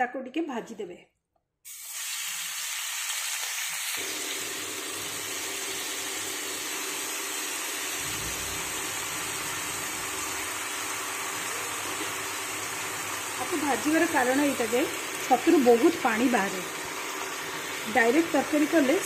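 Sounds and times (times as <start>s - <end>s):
mushrooms sizzling in a frying pan: 1.7s - 19.0s.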